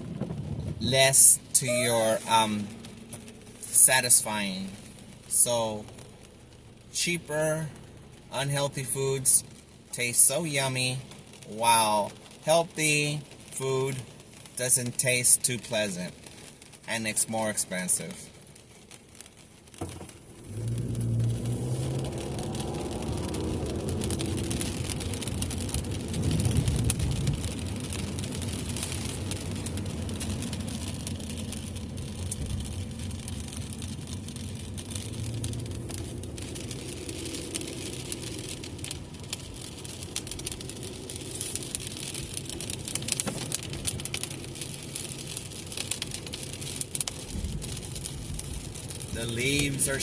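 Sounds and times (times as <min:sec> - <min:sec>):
rain hissing on car: 0:00.0 - 0:50.0
tyres and engine rumble: 0:00.0 - 0:50.0.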